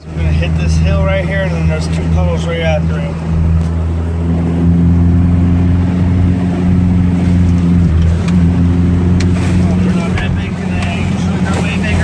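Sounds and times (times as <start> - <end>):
pickup engine running: 0.0 - 12.0.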